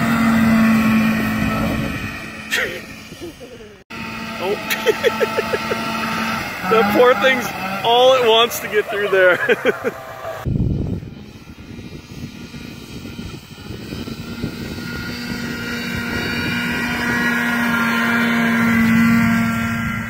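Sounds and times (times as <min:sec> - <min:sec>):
snowmobile engine droning: 0:00.0 - 0:20.0.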